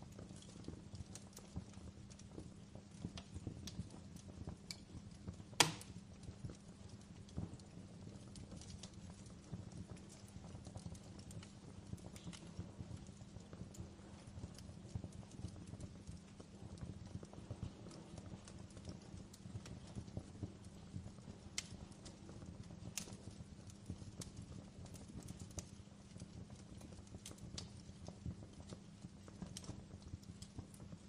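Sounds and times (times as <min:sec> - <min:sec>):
fireplace crackling: 0:00.0 - 0:31.0.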